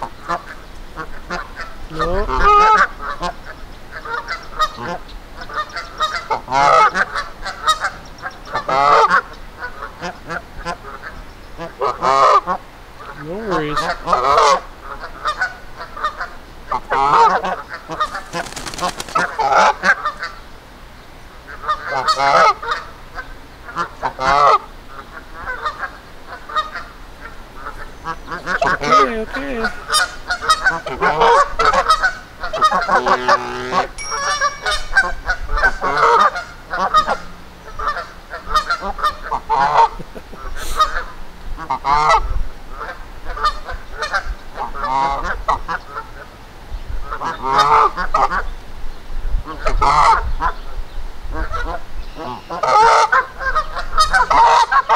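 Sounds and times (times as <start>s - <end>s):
geese honking: 0.0s - 20.4s, 21.4s - 46.1s, 51.4s - 54.9s.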